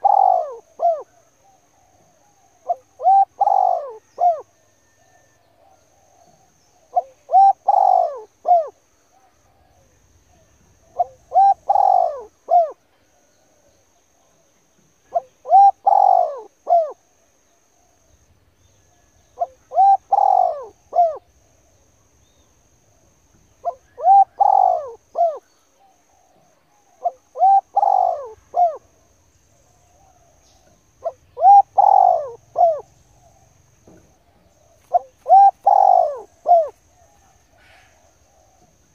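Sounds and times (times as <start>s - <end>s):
bird cooing: 0.0s - 38.9s.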